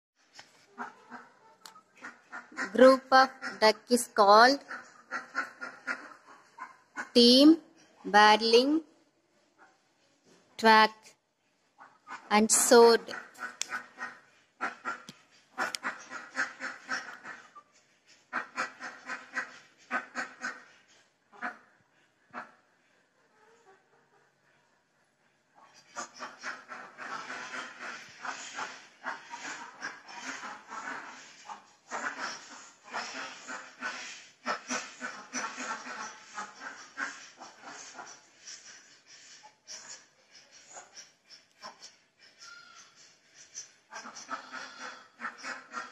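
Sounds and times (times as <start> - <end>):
ducks quacking: 0.6 - 7.9, 11.8 - 22.7, 25.6 - 45.9.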